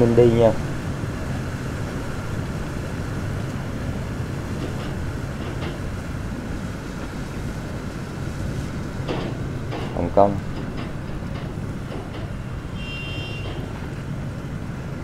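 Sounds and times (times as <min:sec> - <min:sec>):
marine engine droning: 0:00.0 - 0:15.0.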